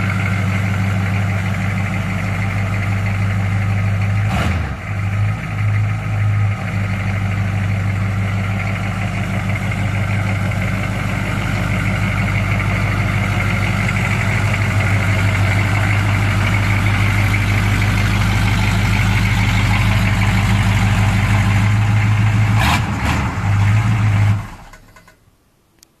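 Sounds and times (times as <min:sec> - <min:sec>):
pickup engine running: 0:00.0 - 0:25.2.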